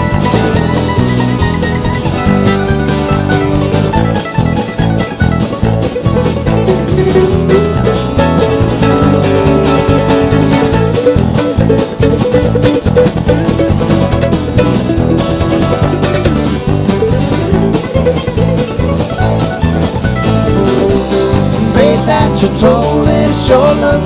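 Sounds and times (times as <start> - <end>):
banjo and guitar bluegrass music: 0.0 - 24.0.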